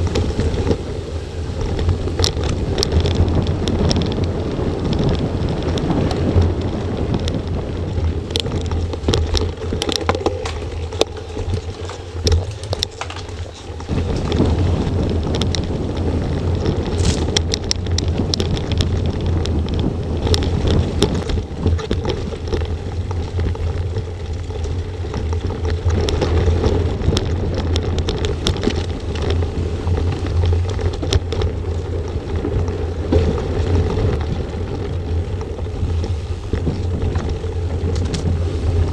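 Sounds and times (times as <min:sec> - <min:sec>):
bike clicks and clatters: 0:00.0 - 0:38.9
tyre rumble on dirt: 0:00.0 - 0:38.9
wind buffeting microphone: 0:00.0 - 0:38.9.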